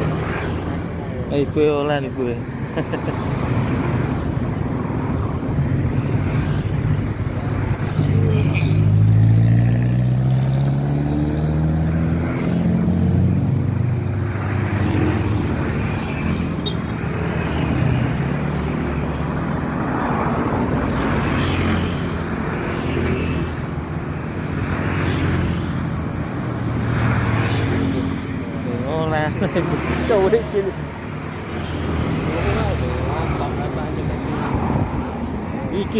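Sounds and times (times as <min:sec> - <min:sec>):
steady traffic hum: 0:00.0 - 0:35.9
vehicle engines passing: 0:00.0 - 0:35.9.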